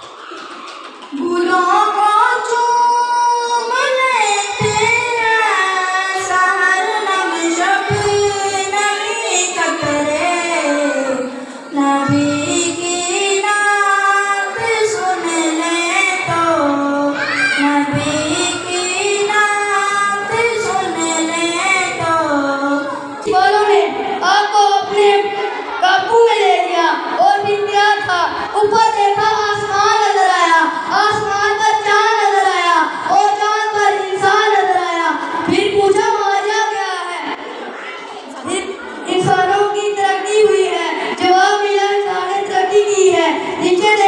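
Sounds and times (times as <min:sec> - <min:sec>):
boy singing unaccompanied chant: 0:01.1 - 0:37.4, 0:38.4 - 0:44.0.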